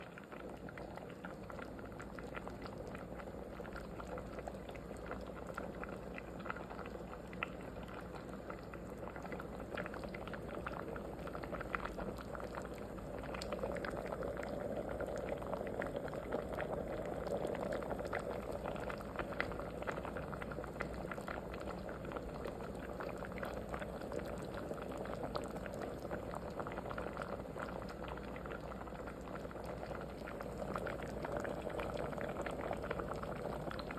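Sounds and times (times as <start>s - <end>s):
liquid boiling in a pot: 0.0s - 33.9s.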